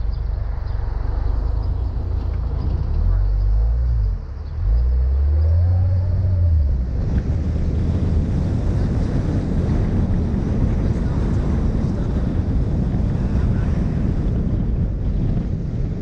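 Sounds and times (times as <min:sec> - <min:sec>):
car driving noise: 0:00.0 - 0:16.0
wind buffeting microphone: 0:00.0 - 0:16.0.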